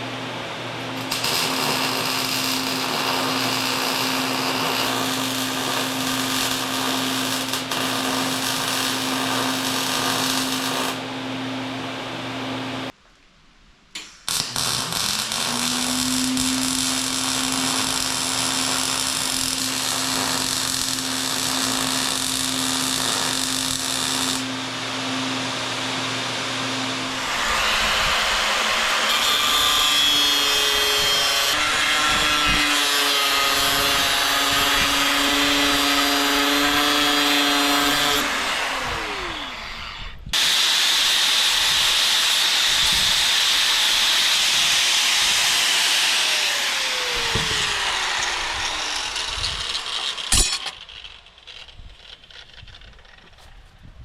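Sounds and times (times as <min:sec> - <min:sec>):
angle grinder cutting steel: 0:01.0 - 0:11.1, 0:14.0 - 0:25.9, 0:26.6 - 0:53.4.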